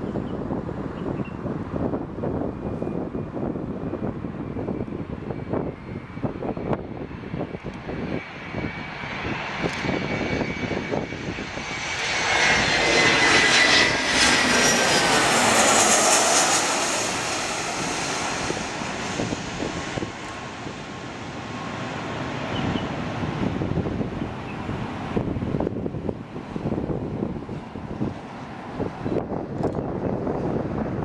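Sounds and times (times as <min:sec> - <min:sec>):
jet plane roar and whine: 0:00.0 - 0:31.0.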